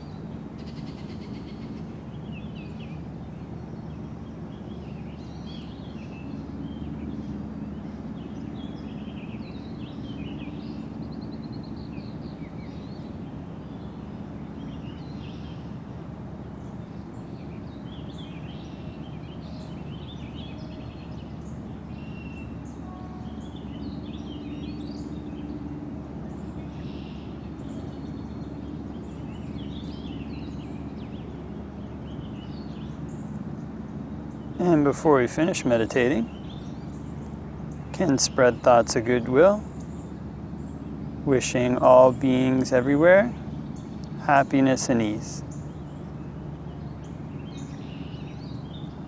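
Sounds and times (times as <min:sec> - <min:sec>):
birds singing and chirping: 0:00.0 - 0:49.0
steady low rumble: 0:00.0 - 0:49.0.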